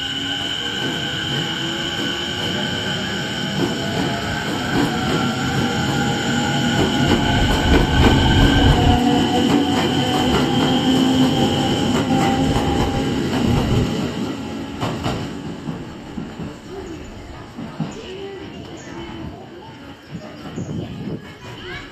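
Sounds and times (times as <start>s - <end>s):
electric train running past: 0.0s - 20.1s.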